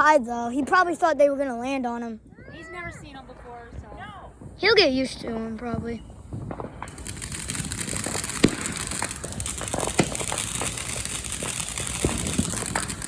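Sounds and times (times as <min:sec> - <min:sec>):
fireworks crackling: 0:00.0 - 0:13.0
sharp fireworks pops: 0:00.3 - 0:13.0.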